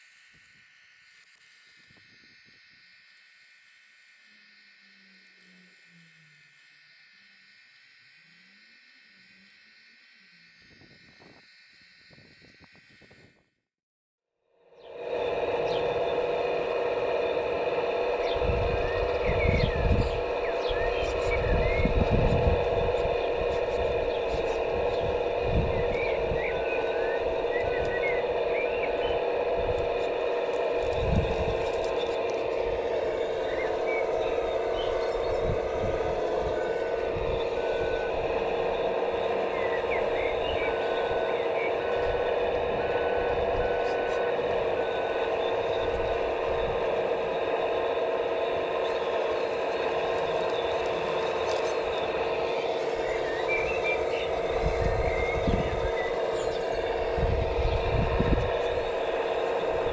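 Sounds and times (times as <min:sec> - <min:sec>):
electric motor whine: 0:00.0 - 0:13.5, 0:14.6 - 0:59.9.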